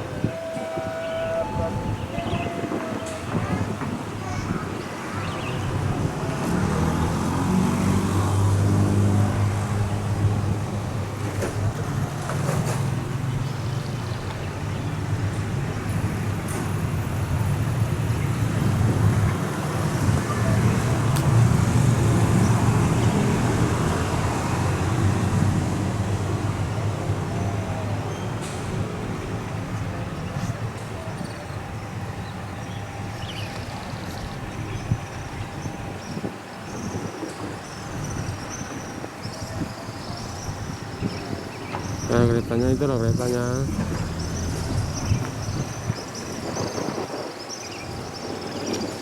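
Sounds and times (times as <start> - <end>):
large vehicle engine humming: 0.0 - 47.1
mechanical and traffic noise: 0.0 - 49.0.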